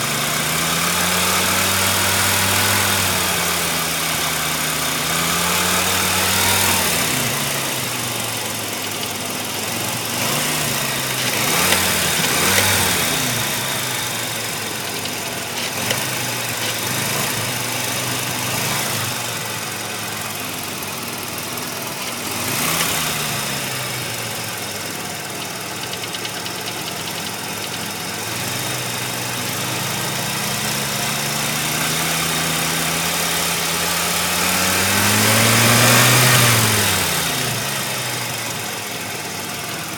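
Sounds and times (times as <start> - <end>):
engine knock: 0.0 - 39.9
rotary engine idling and revving: 0.0 - 39.9.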